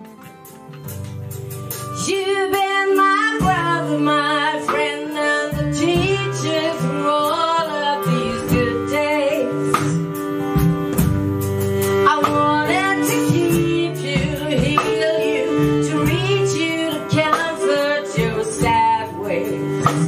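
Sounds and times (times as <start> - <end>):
band playing guitar and bass: 0.0 - 20.0
woman singing with vibrato: 2.0 - 10.1, 12.0 - 20.0.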